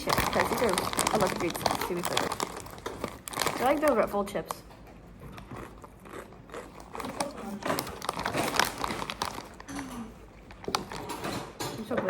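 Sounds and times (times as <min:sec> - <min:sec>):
chips crunching in mouth: 0:00.0 - 0:04.3, 0:05.4 - 0:11.2
chip bag rustling: 0:00.0 - 0:04.6, 0:05.4 - 0:11.4.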